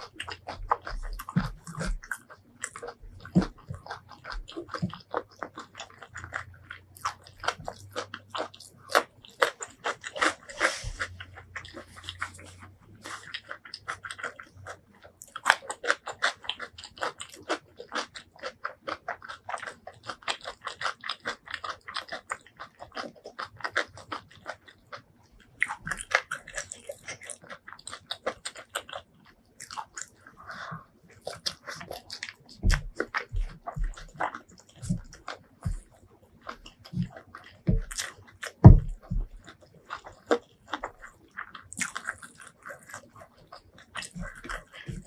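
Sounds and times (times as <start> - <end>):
person chewing and biting food: 0.0 - 45.0.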